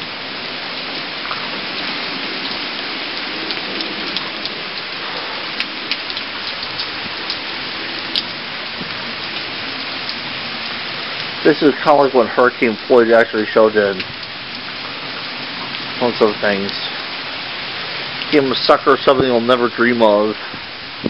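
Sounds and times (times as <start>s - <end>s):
heavy rain hiss: 0.0s - 21.0s
sharp ticks of raindrops: 0.0s - 21.0s.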